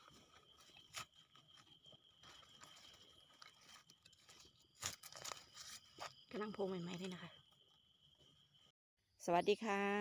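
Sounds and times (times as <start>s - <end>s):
high insect tone: 0.0s - 10.0s.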